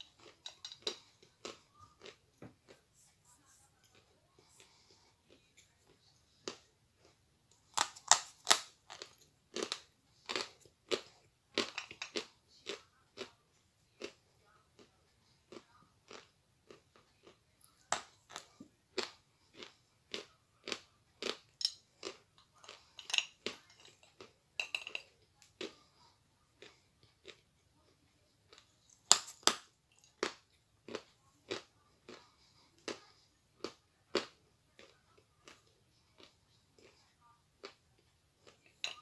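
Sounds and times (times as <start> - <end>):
crunching and chewing brittle clay: 0.0 - 2.9, 3.9 - 39.0.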